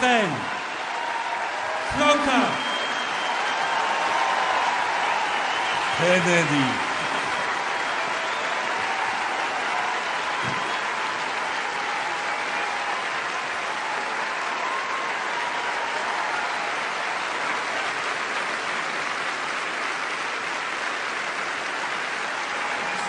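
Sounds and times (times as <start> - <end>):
crowd applauding: 0.0 - 23.0.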